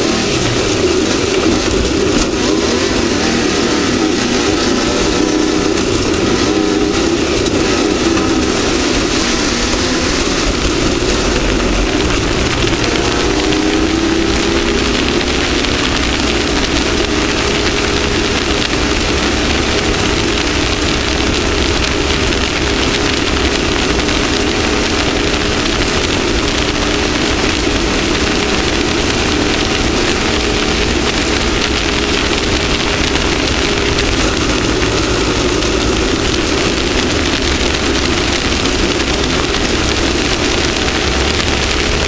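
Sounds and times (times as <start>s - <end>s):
engine running under load: 0.0s - 42.0s
terrain noise: 0.0s - 42.0s.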